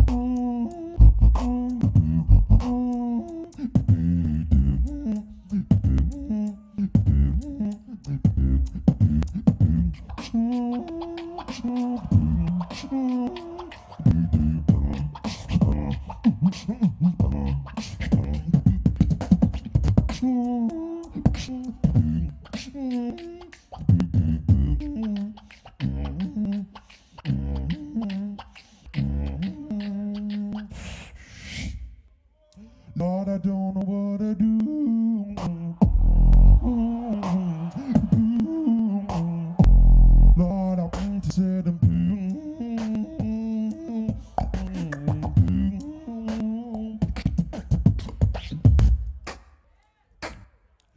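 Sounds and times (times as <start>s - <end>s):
hummed or sung lines: 0.0s - 26.7s, 32.6s - 48.1s
beatboxing: 0.0s - 31.9s, 32.5s - 50.9s.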